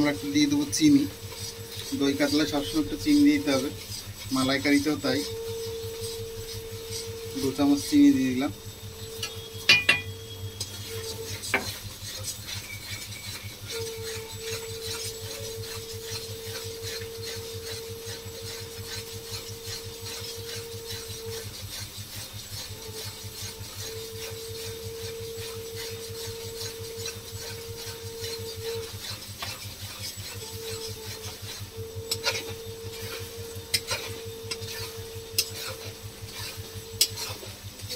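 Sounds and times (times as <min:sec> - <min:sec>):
metal spatula scraping metal pan: 0:00.0 - 0:37.9.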